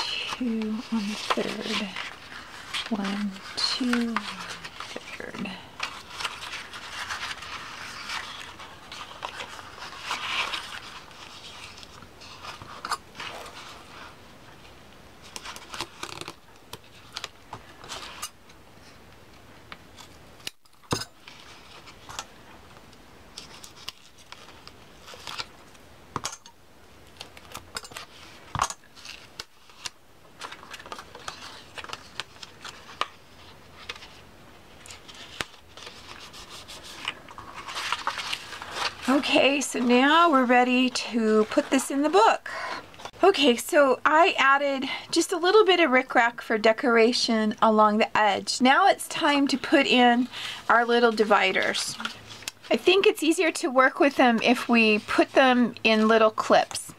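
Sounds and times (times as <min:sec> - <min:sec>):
paper rustling: 0:00.0 - 0:14.2, 0:15.2 - 0:19.0, 0:21.2 - 0:25.8, 0:27.1 - 0:43.6, 0:49.1 - 0:56.9.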